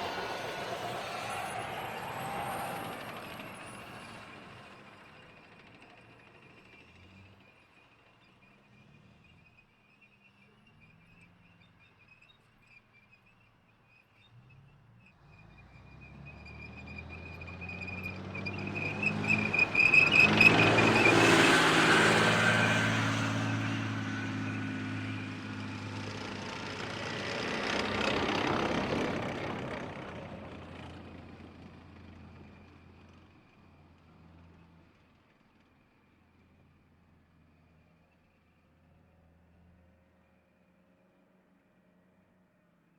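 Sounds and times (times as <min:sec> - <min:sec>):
tanks passing by: 0:00.0 - 0:12.2, 0:14.3 - 0:36.5.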